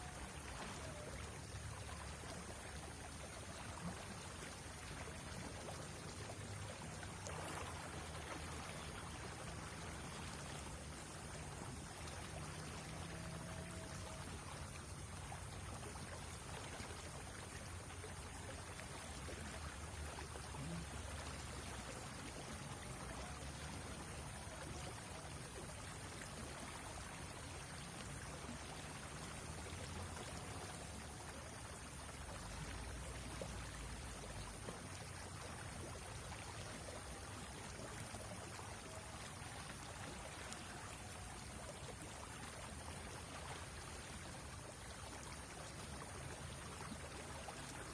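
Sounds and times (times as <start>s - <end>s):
river water running: 0.0s - 47.9s.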